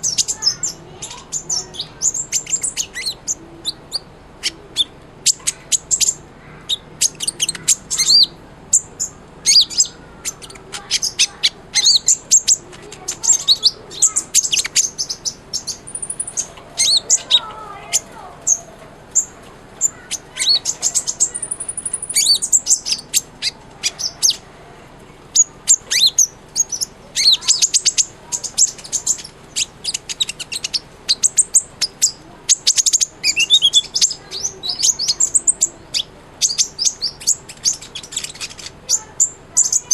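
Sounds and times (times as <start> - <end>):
sunbird singing chirps and trills: 0.0 - 39.9.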